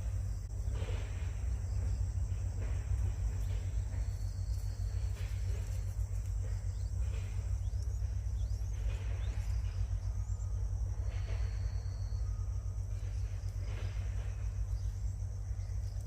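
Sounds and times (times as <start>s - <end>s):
high-pitched insect drone: 0.0s - 16.0s
low rumble: 0.0s - 16.0s.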